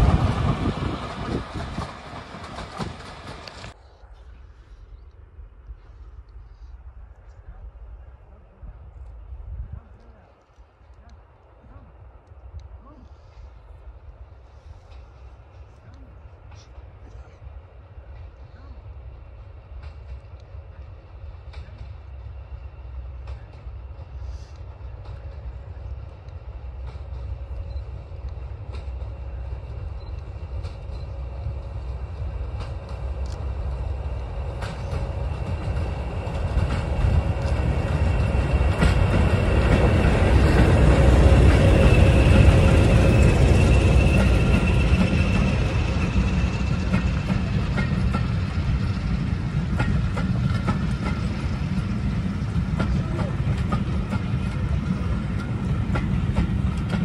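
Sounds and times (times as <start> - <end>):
diesel locomotive engine rumble: 0.0 - 57.0
locomotive high whine: 0.0 - 57.0.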